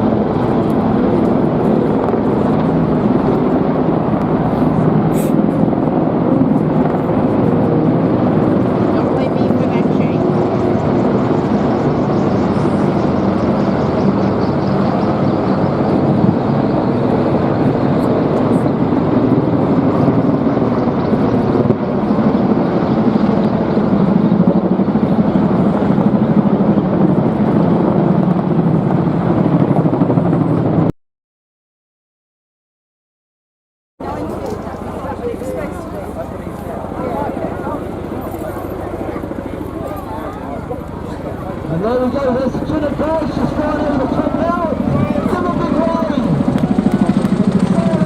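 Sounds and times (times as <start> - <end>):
helicopters flying over: 0.0 - 30.9, 34.0 - 48.0.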